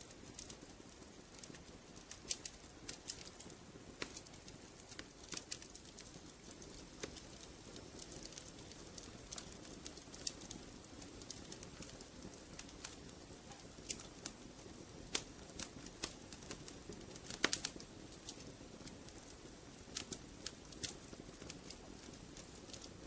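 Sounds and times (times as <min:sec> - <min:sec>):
soft steady hiss: 0:00.0 - 0:23.0
wood fire crackling: 0:00.0 - 0:23.0.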